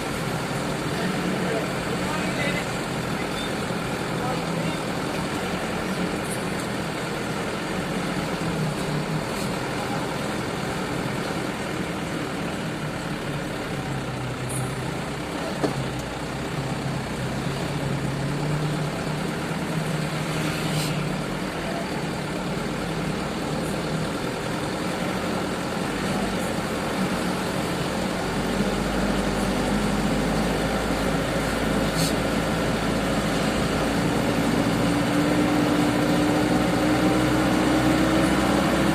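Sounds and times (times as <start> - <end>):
truck engine running at low revs: 0.0 - 38.9.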